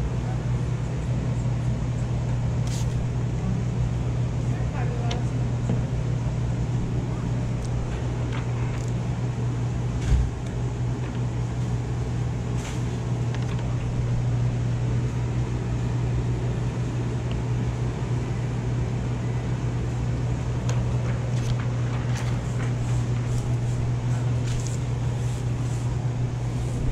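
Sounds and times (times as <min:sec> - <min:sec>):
low mechanical hum: 0:00.0 - 0:26.9.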